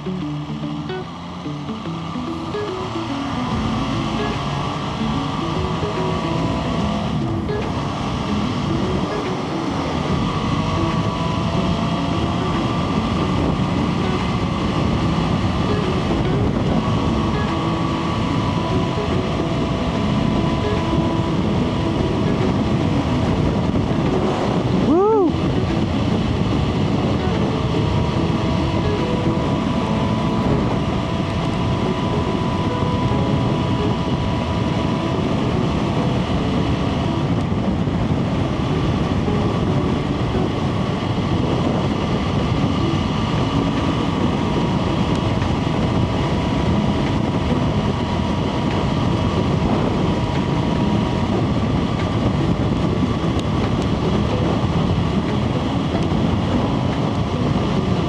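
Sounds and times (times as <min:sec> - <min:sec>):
motorcycle engine: 0:00.0 - 0:58.0
road rumble: 0:00.0 - 0:58.0
wind rush: 0:00.0 - 0:58.0.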